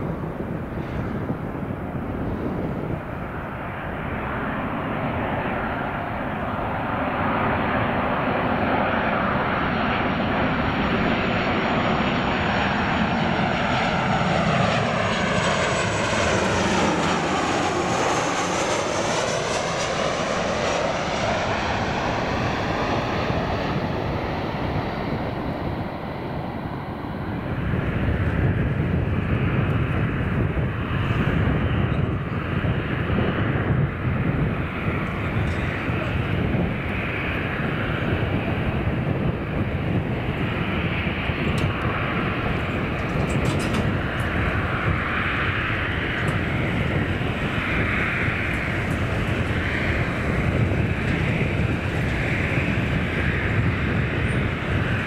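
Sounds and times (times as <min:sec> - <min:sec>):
jet airliner whining and rushing: 0:00.0 - 0:55.0.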